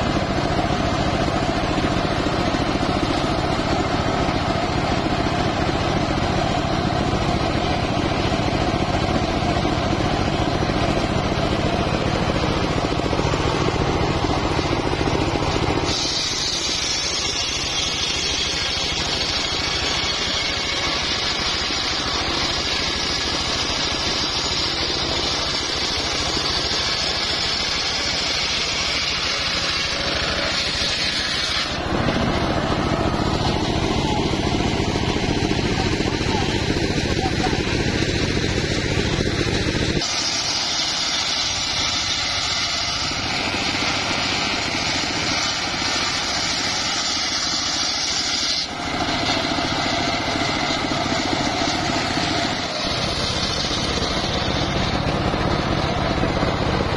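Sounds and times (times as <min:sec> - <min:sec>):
saw blade cutting wood: 0:00.0 - 0:56.9
sawmill engine running: 0:00.0 - 0:56.9.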